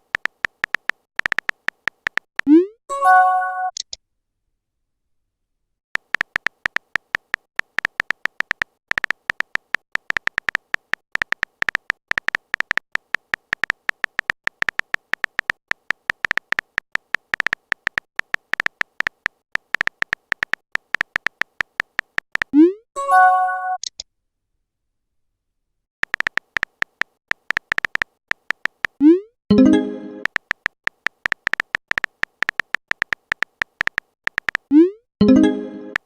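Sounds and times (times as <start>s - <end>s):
phone keyboard typing ticks: 0.0s - 2.6s, 6.0s - 22.6s, 26.0s - 36.0s.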